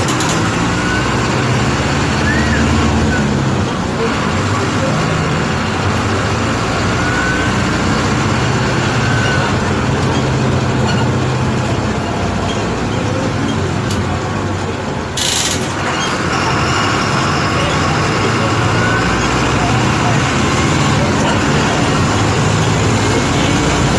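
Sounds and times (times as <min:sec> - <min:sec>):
bus diesel engine drone: 0:00.0 - 0:23.9.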